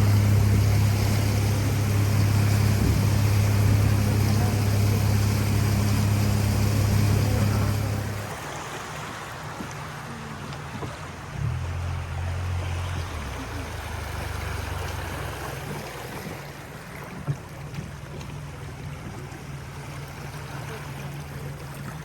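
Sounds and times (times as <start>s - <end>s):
boat motor running: 0.0s - 22.0s
water rushing along hull: 0.0s - 22.0s.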